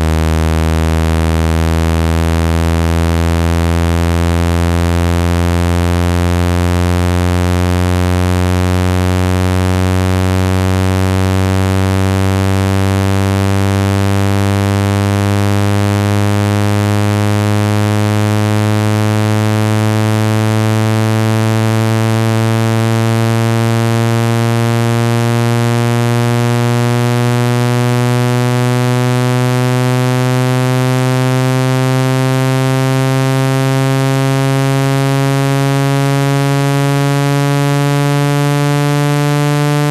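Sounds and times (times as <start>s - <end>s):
low buzzing tone rising in pitch: 0.0s - 39.9s.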